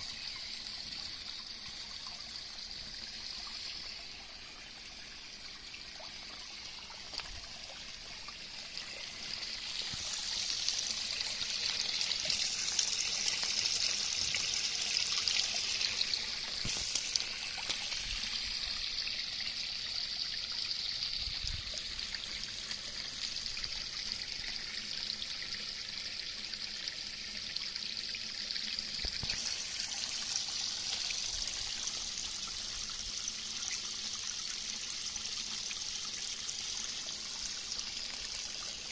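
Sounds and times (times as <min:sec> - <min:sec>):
water pouring into a pond: 0:00.0 - 0:38.9.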